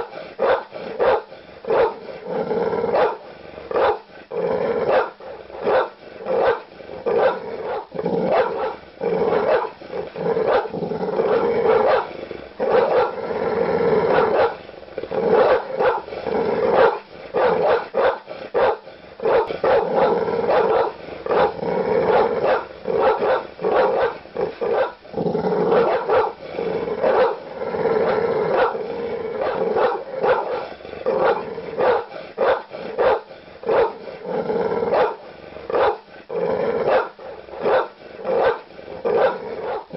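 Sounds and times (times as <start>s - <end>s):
large dogs barking aggressively: 0.0s - 39.9s.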